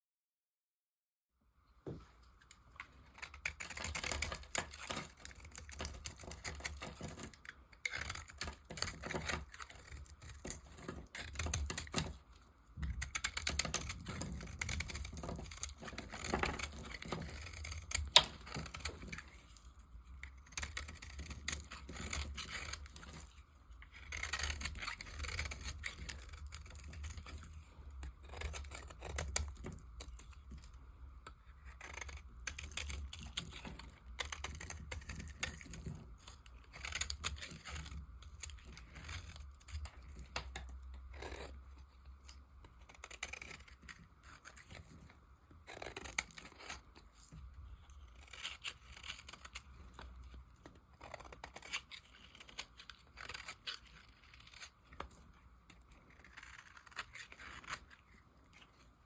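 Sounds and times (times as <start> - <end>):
blade cutting dry soap: 2.4 - 59.0.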